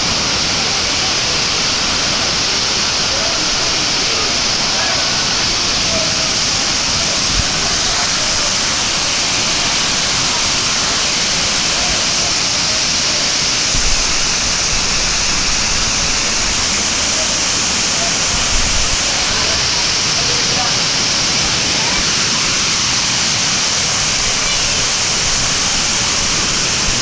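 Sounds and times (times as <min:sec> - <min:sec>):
indistinct voices: 0:00.0 - 0:27.0
waterfall rushing: 0:00.0 - 0:27.0.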